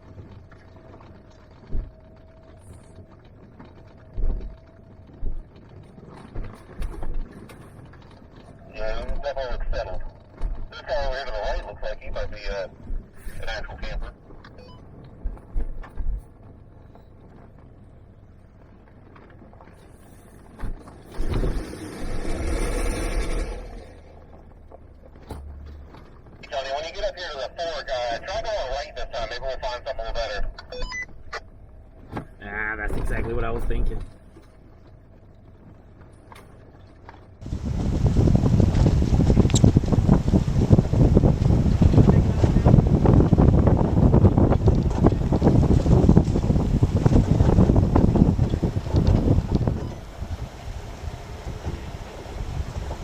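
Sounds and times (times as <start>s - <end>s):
vehicle rumbling on dirt road: 0.0s - 53.0s.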